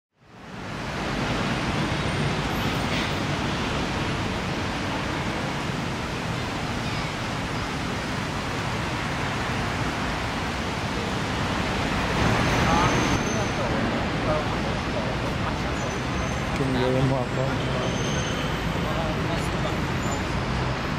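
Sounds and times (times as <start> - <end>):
road traffic rush: 0.1 - 20.9.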